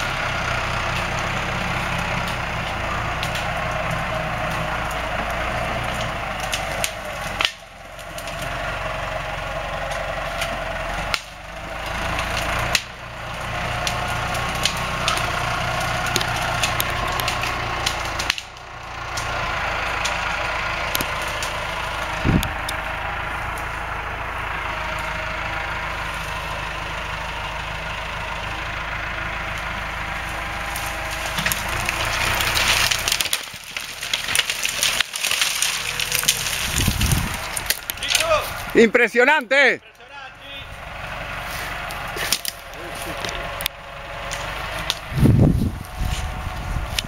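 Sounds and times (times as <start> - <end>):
dry brush crackling and rustling: 0.0 - 23.9, 29.5 - 47.0
wood snapping and cracking: 0.0 - 23.9, 29.4 - 39.4, 41.6 - 47.0
tractor engine running: 0.0 - 47.0.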